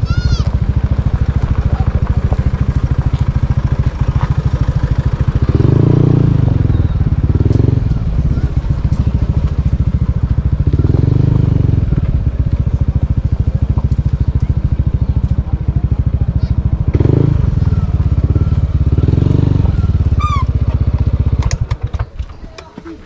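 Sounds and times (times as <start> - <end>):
motorcycle engine running: 0.0 - 22.3.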